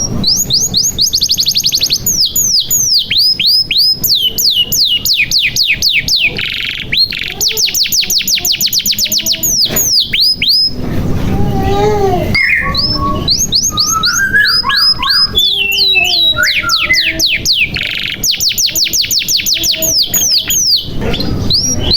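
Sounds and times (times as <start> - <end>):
canary singing: 0.0 - 21.9.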